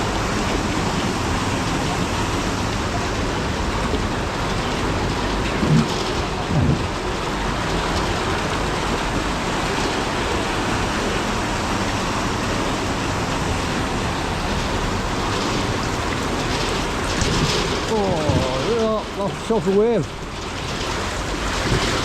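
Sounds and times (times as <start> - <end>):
heavy rain on flooded street: 0.0 - 22.0.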